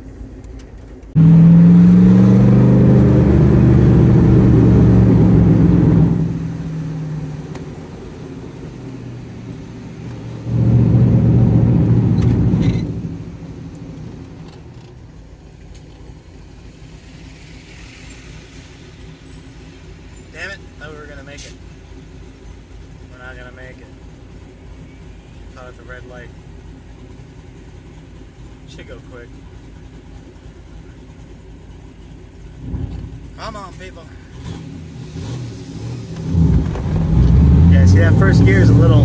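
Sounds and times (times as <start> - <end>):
car engine under heavy throttle: 0.0 - 39.0.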